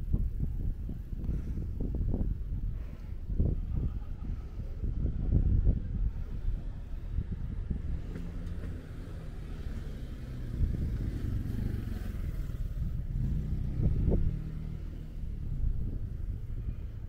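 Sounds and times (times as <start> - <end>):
road noise of passing vehicle: 0.0 - 17.0
vehicle engine humming: 0.0 - 17.0.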